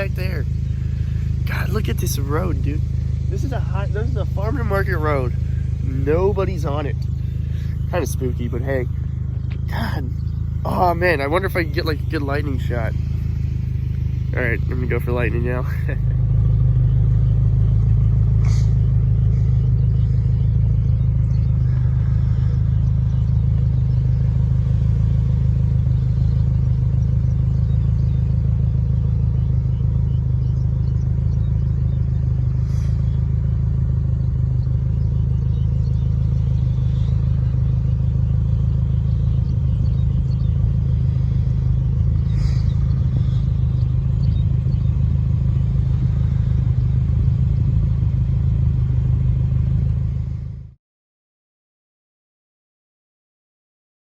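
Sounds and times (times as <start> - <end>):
car engine and tyre rumble: 0.0 - 50.8.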